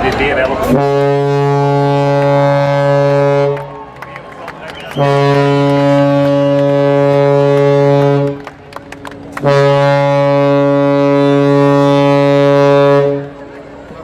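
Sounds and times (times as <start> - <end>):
ship's horn blasts: 0.7 - 4.0, 4.7 - 8.5, 9.2 - 13.8.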